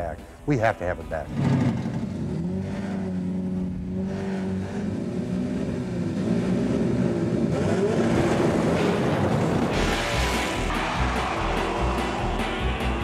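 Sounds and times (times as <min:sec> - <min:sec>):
car engine revving: 0:01.2 - 0:13.0.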